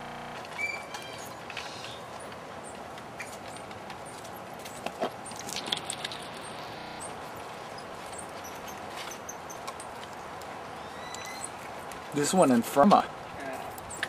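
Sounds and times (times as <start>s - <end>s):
steady outdoor hiss: 0.0s - 14.0s
animals scrabbling on dry leaves: 0.3s - 12.5s.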